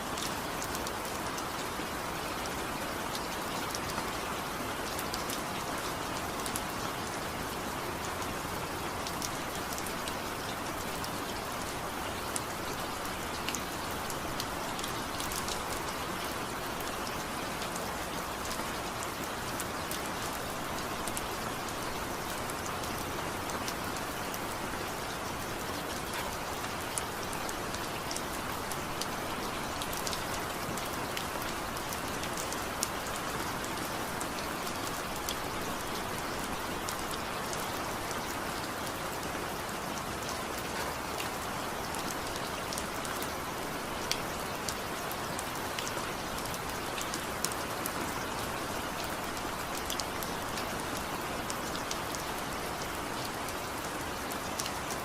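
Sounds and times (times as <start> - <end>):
raindrops ticking on a surface: 0.1 - 55.0.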